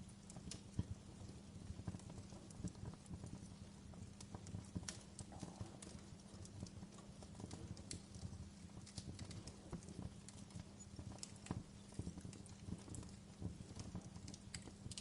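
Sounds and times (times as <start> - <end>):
wood fire crackling: 0.0 - 15.0
sharp pops and snaps: 0.2 - 15.0.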